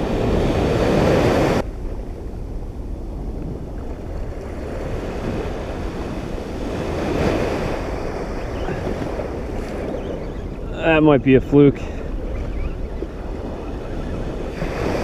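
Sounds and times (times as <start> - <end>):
ocean surf washing: 0.0 - 15.0
wind rumbling on microphone: 0.0 - 15.0.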